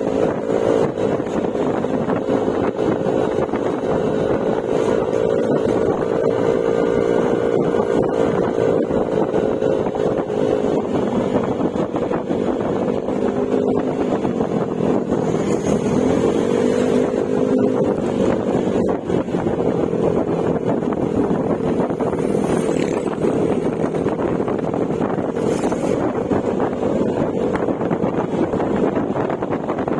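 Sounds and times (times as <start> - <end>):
scooter engine cruising: 0.0 - 29.9
wind noise on microphone: 0.0 - 29.9.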